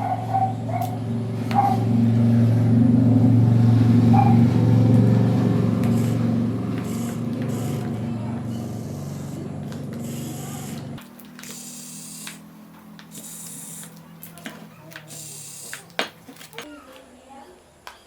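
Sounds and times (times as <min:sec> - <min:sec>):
electric gear motors humming: 0:00.0 - 0:16.6.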